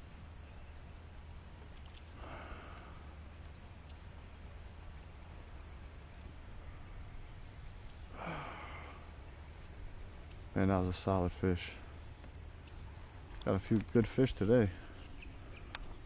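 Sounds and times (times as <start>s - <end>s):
insects droning high-pitched: 0.0s - 16.0s.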